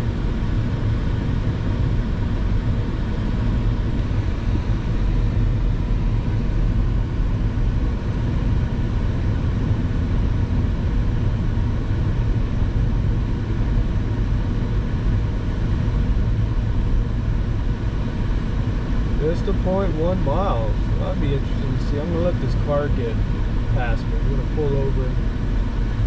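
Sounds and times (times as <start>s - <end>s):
car engine rumble from inside: 0.0s - 26.0s.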